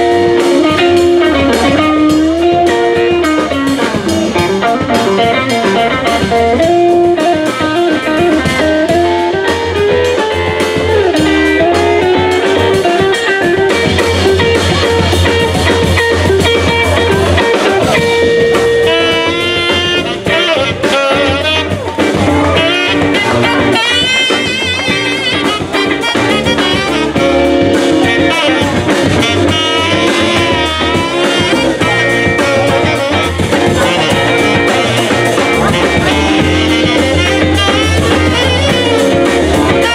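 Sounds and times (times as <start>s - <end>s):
drums: 0.0s - 39.9s
electric guitar: 0.0s - 39.9s
upright bass: 0.0s - 39.9s.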